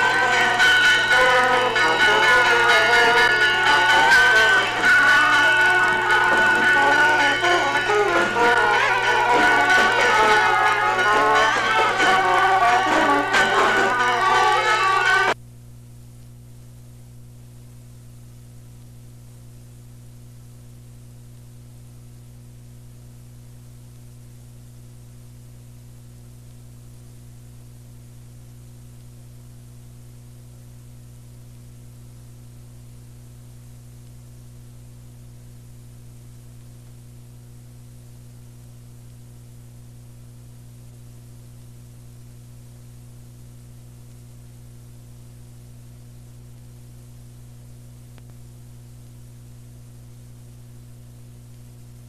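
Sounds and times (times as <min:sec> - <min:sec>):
constant hiss: 0:00.0 - 0:52.0
electrical mains hum: 0:00.0 - 0:52.0.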